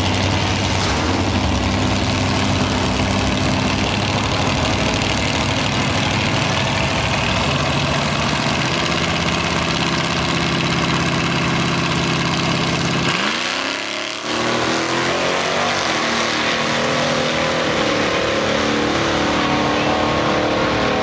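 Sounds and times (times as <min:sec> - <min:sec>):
muscle car engines revving: 0:00.0 - 0:21.0.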